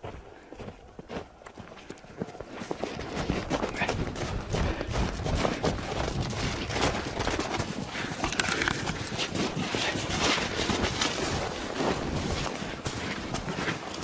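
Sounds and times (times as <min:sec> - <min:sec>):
footsteps crunching in snow: 0:00.0 - 0:14.0.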